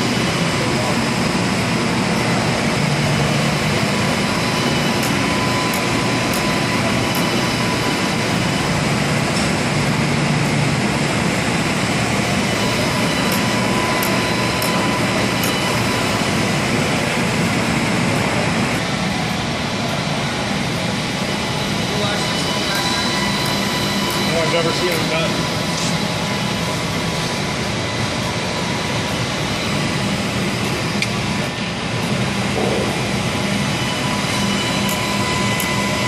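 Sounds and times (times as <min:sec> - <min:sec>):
printer whirring: 0:00.0 - 0:36.0.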